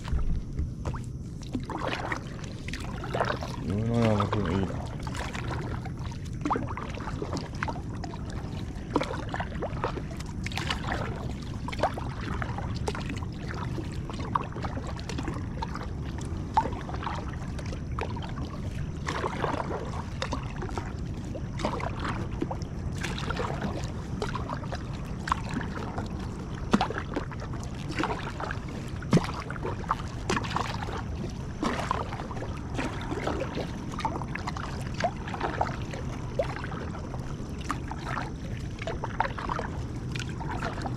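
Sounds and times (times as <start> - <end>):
steady low hum: 0.0 - 40.9
water lapping and splashing: 0.0 - 40.9.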